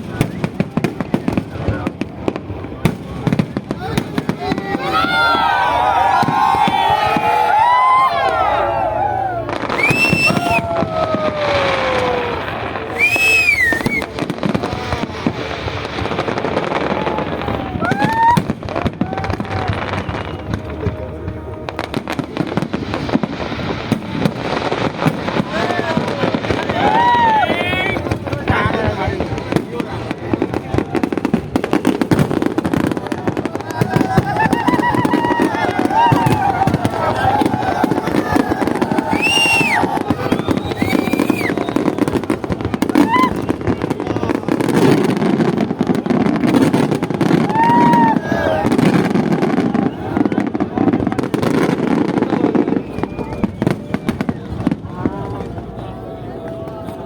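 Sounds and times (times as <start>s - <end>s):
crowd chatter: 0.0s - 57.0s
fireworks bangs and crackling pops: 0.0s - 57.0s.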